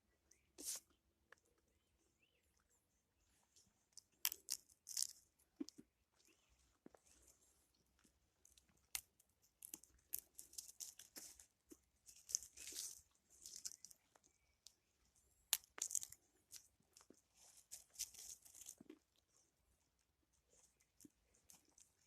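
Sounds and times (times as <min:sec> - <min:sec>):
faint crunching and crackling: 0:00.0 - 0:22.0.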